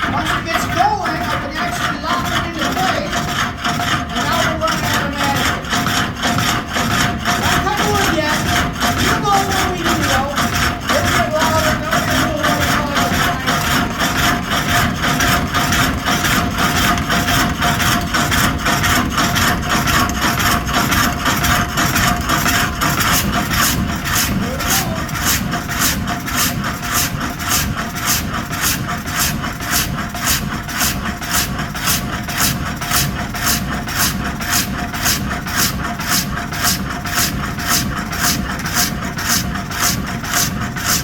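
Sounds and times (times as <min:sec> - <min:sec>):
sawmill blade strokes: 0:00.0 - 0:41.0
steady high hum: 0:04.1 - 0:41.0.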